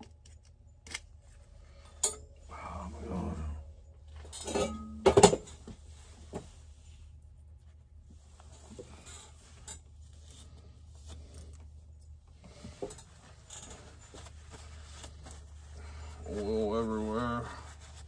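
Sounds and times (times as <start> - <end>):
steady low hum: 0.0 - 18.0
rustling: 2.4 - 18.0.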